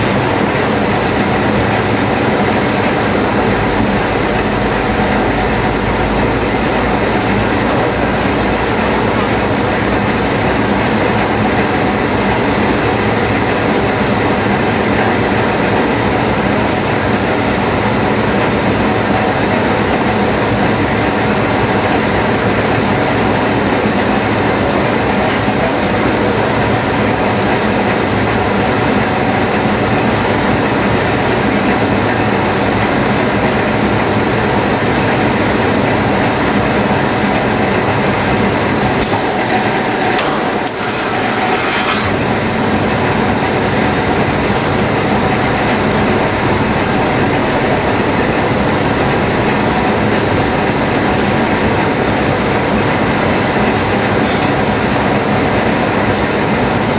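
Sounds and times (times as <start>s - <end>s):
spring coiling machine running: 0.0s - 56.9s.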